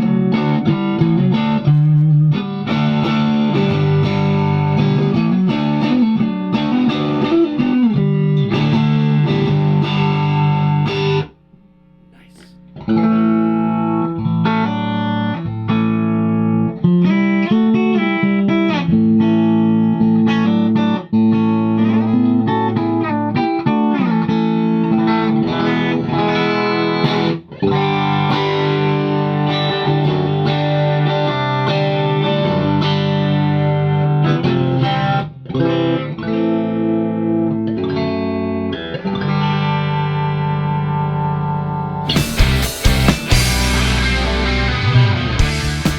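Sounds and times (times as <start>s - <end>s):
clean electric guitar: 0.0s - 45.9s.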